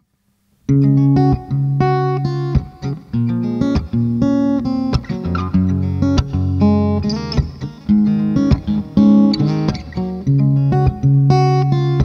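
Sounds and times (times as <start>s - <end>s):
acoustic guitar fingerstyle: 0.7s - 12.0s.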